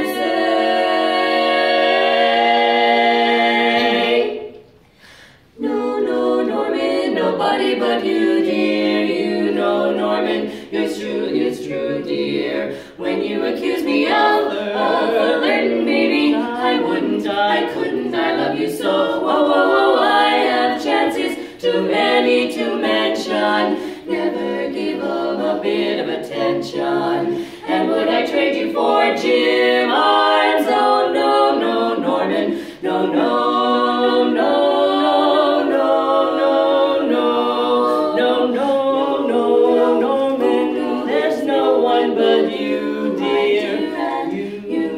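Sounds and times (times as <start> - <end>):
women singing a cappella: 0.0 - 44.9.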